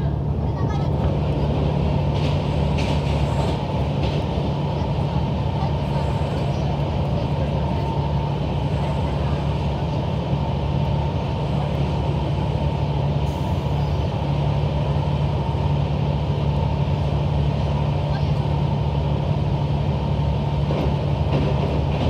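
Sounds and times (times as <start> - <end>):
railcar engine hum: 0.0 - 22.0
wheel and rail rumble: 0.0 - 22.0.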